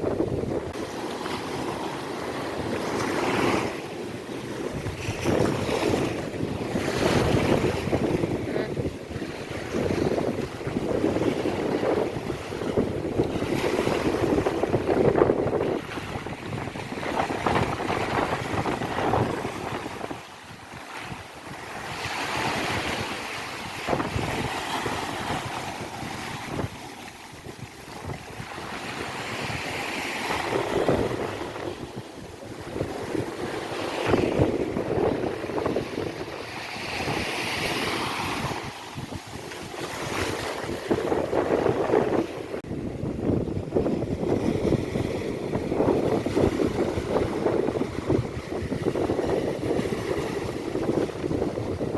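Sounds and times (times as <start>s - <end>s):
sea waves breaking on beach: 0.0s - 51.9s
wind buffeting microphone: 0.0s - 51.9s.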